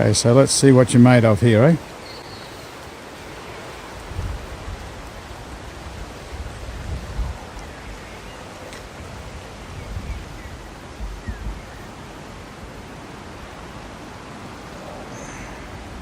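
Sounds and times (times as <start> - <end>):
wind buffeting microphone: 1.2 - 16.0.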